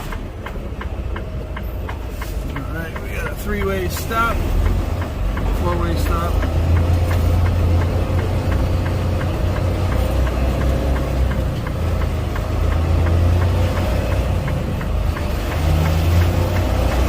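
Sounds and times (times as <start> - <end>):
faint regular ticking: 0.0 - 17.0
truck diesel engine running: 0.0 - 17.0.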